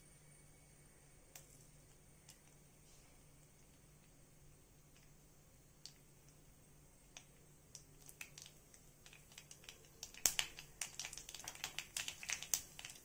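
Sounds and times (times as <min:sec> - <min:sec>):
seeds popping in hot oil: 0:01.2 - 0:02.7, 0:03.3 - 0:13.0.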